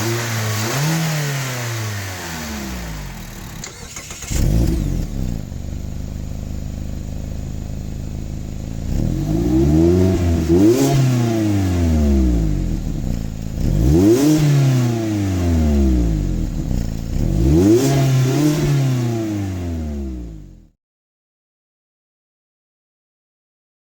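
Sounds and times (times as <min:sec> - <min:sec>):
car engine idling and revving: 0:00.0 - 0:20.8.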